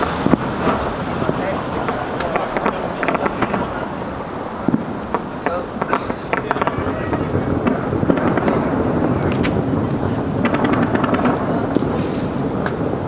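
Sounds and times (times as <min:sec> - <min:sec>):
background rumble: 0:00.0 - 0:13.0
fireworks popping and crackling: 0:00.0 - 0:13.0.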